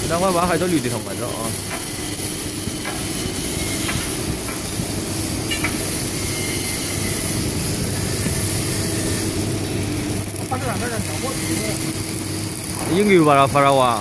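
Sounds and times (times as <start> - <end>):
hydraulic pump humming and hissing: 0.0 - 14.0.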